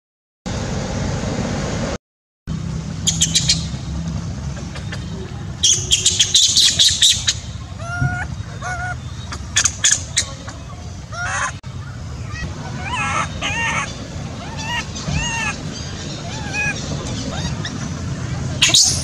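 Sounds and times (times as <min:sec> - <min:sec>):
birds chirping: 0:02.9 - 0:19.0
lower bird calls: 0:03.0 - 0:19.0.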